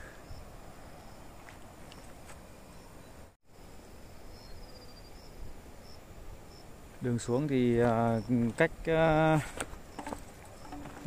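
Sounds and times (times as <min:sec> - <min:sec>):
steady low hiss: 0:00.0 - 0:11.0
high insect chirps: 0:00.1 - 0:11.0.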